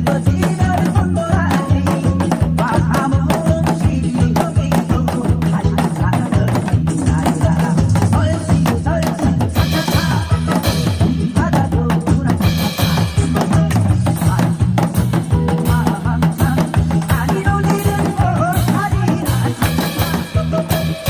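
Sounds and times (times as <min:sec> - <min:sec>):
recorded song instrumental backing: 0:00.0 - 0:21.0.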